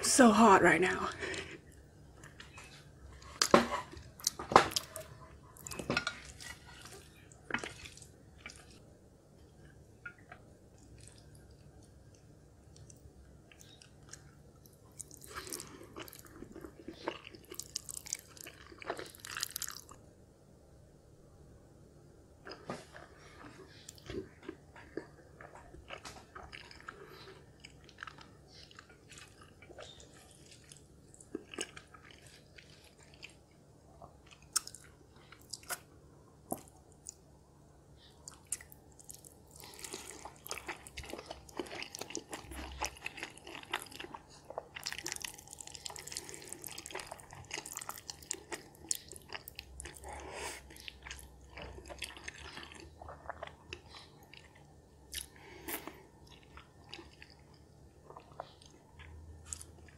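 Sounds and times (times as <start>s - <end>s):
wet chewing: 3.3s - 8.8s, 9.6s - 20.0s, 22.4s - 37.2s, 38.0s - 59.9s.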